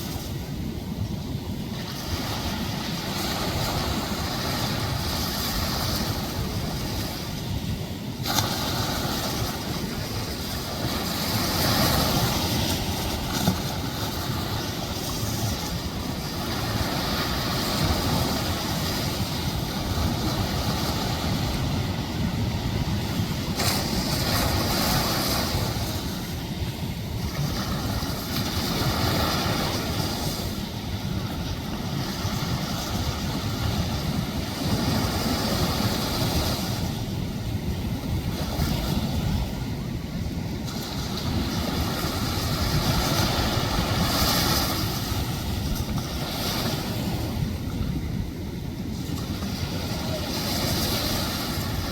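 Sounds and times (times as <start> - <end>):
ocean surf breaking: 0.0 - 51.9
wind rumble on microphone: 0.0 - 51.9.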